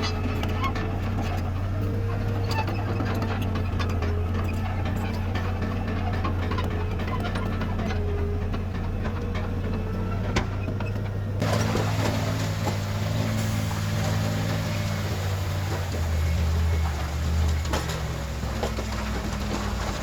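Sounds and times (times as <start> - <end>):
diesel machinery engine hum: 0.0 - 20.0.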